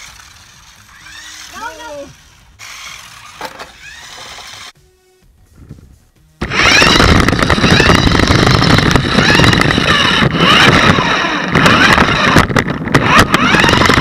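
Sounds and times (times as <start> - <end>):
toy cars ramming rattle: 0.0 - 4.8, 6.4 - 14.0
toy electric motors whining: 0.0 - 4.8, 6.4 - 14.0.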